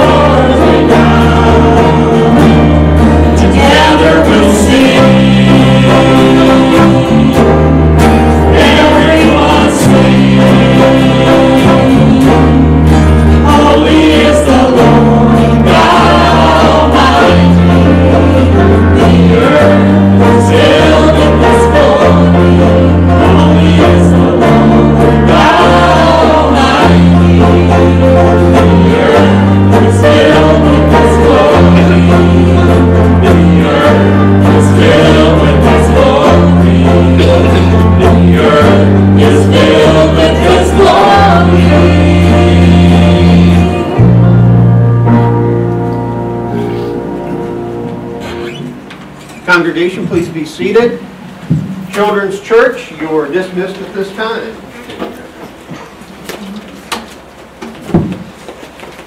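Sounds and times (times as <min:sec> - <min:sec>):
steady bass line: 0:00.0 - 0:48.9
congregation singing a hymn: 0:00.0 - 0:52.2
instrumental accompaniment: 0:00.0 - 0:52.4.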